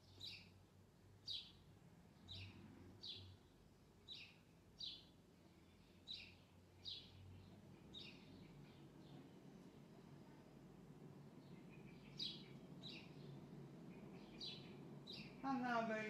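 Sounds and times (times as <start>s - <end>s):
small bird chirping faintly: 0.0s - 15.9s
faint low hum: 0.0s - 16.0s.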